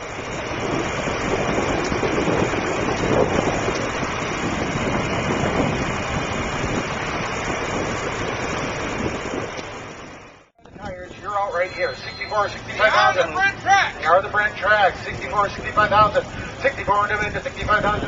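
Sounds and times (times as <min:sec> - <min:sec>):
blizzard wind on microphone: 0:00.0 - 0:18.0.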